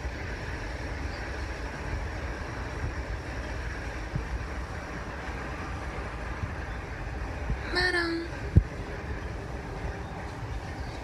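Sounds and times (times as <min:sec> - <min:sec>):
constant hiss: 0:00.0 - 0:11.0
steady low rumble: 0:00.0 - 0:11.0.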